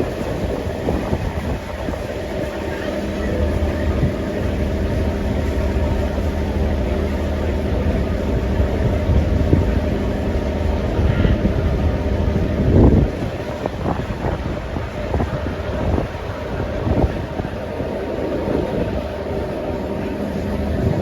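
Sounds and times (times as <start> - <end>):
boat engine humming: 0.0 - 21.0
hull moving through water: 0.0 - 21.0.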